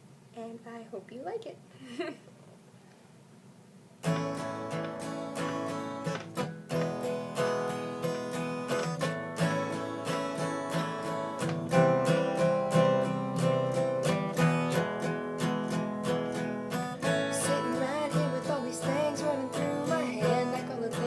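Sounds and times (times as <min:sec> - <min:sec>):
acoustic guitar strumming: 0:04.0 - 0:21.0.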